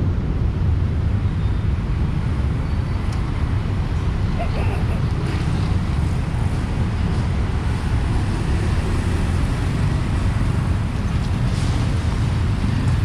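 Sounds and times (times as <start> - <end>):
motorbikes and cars passing: 0.0 - 13.0.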